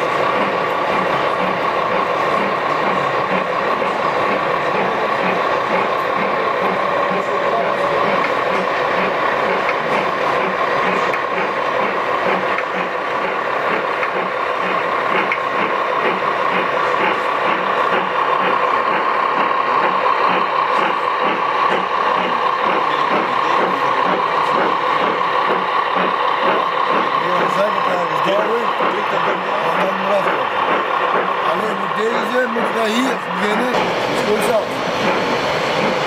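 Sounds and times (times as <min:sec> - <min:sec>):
mechanical hum: 0:00.0 - 0:36.0
model steam locomotive chuffing: 0:00.0 - 0:36.0
wheels rattling on track: 0:00.0 - 0:36.0.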